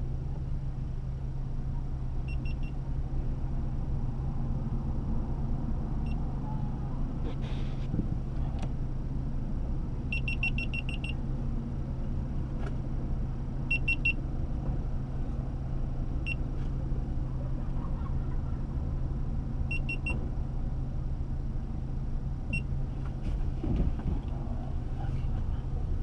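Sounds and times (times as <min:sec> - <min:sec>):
car cabin drone: 0:00.0 - 0:26.0.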